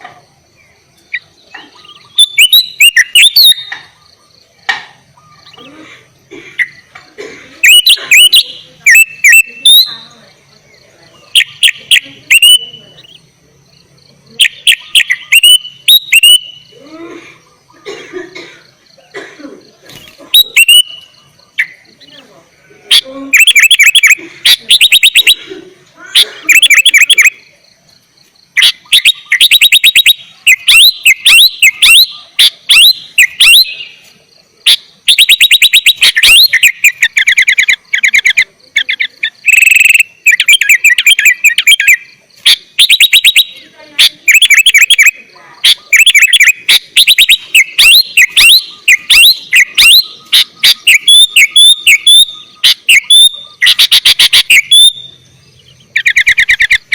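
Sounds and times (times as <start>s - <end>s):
bulbul singing rapid chattering notes: 0.0s - 16.8s, 19.9s - 27.7s, 28.4s - 56.9s.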